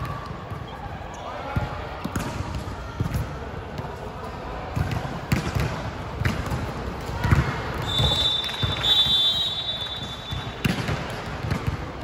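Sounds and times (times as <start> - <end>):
players and spectators voices: 0.0 - 12.0.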